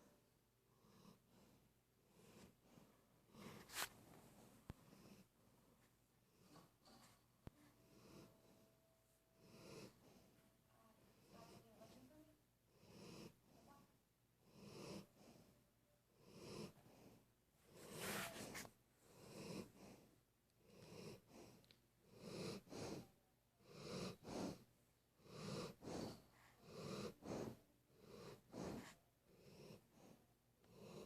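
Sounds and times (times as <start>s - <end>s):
pet snoring quietly: 0.8s - 3.8s, 4.7s - 5.3s, 6.4s - 8.6s, 9.4s - 10.4s, 11.1s - 15.6s, 16.2s - 31.0s.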